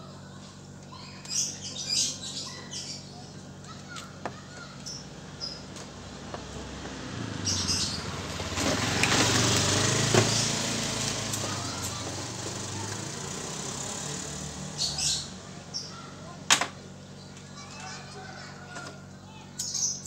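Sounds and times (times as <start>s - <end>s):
engine hum: 0.0s - 20.0s.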